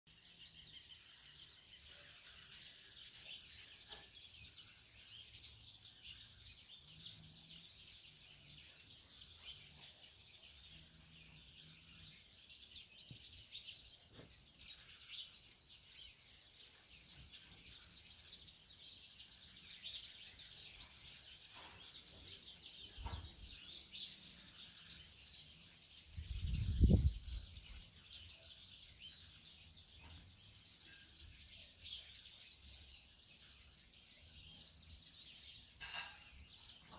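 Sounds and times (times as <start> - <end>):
small birds chirping and twittering: 0.0 - 36.9.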